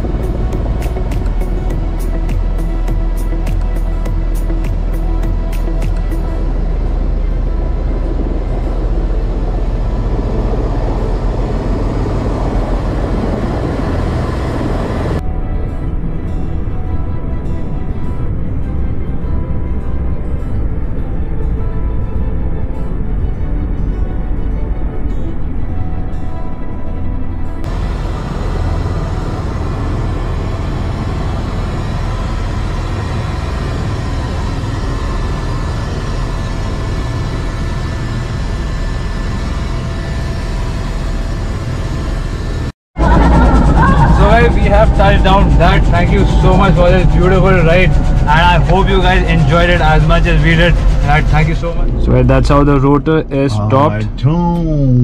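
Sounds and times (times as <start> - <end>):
helicopter turbine and rotor noise: 0.0 - 54.6.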